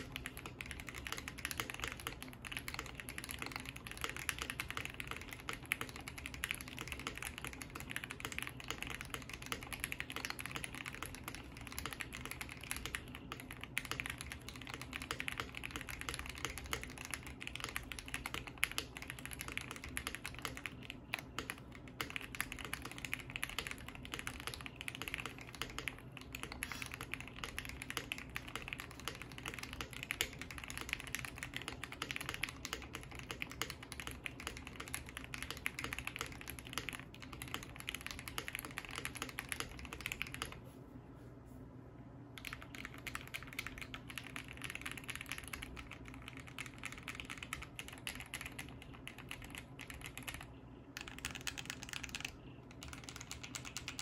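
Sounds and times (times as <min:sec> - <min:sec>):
mechanical keyboard typing: 0:00.0 - 0:40.6, 0:42.4 - 0:54.0.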